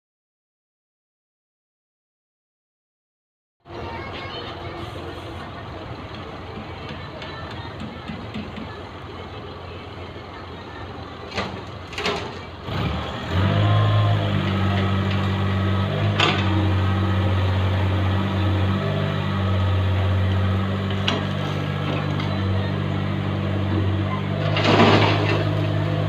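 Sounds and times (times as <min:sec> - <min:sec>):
diesel engine starting and running: 0:03.7 - 0:26.0.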